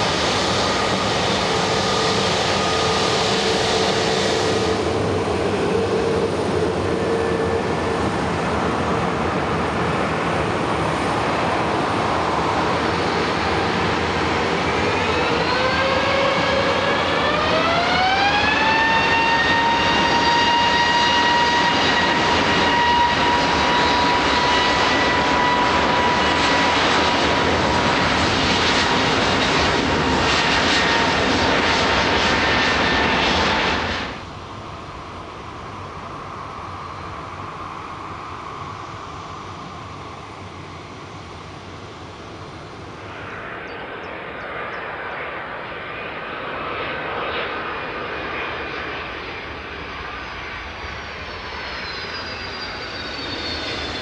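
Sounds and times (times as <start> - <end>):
jet engine whine rising: 0.0 - 54.0
jet engines roaring: 0.0 - 54.0.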